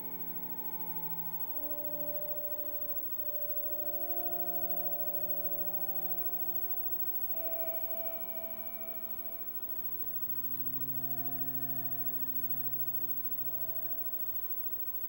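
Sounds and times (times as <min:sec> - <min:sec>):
slow soft music of held notes: 0:00.0 - 0:15.0.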